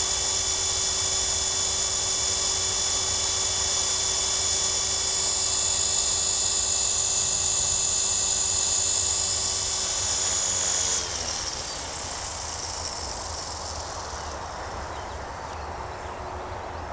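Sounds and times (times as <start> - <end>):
model helicopter whining: 0.0 - 15.5.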